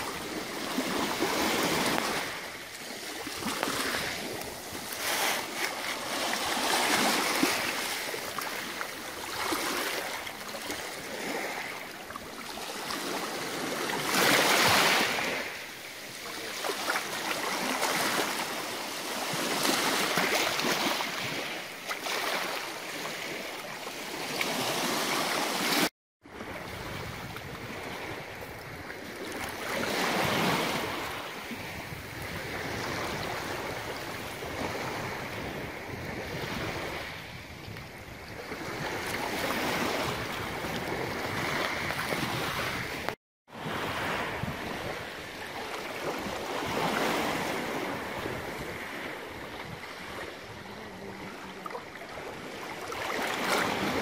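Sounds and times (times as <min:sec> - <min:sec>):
waves lapping on pebble beach: 0:00.0 - 0:54.0.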